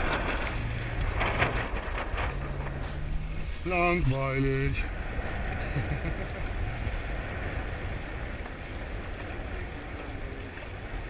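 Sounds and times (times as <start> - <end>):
water rushing along boat hulls: 0.0 - 11.0
wind buffeting microphone: 0.0 - 11.0.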